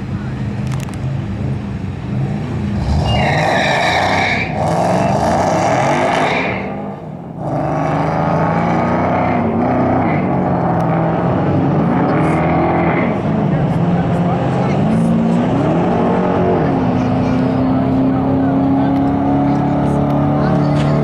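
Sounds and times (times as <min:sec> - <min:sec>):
car engines revving hard: 0:00.0 - 0:21.0.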